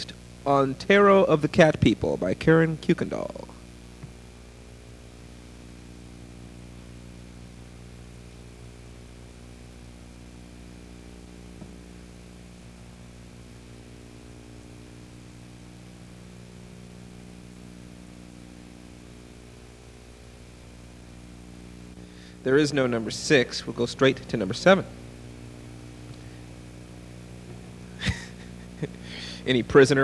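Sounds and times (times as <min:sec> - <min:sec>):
constant hiss: 0:00.0 - 0:30.0
electrical mains hum: 0:00.0 - 0:30.0.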